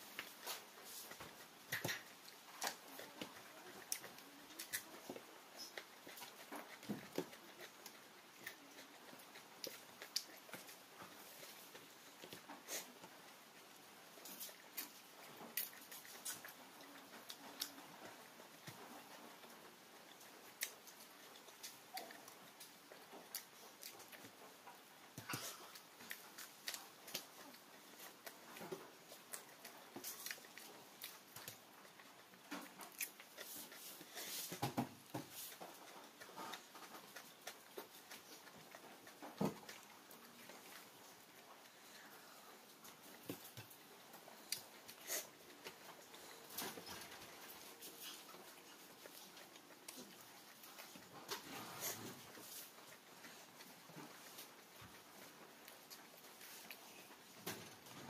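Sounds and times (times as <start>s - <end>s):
chewing: 0.0s - 58.0s
eating sounds: 0.0s - 58.0s.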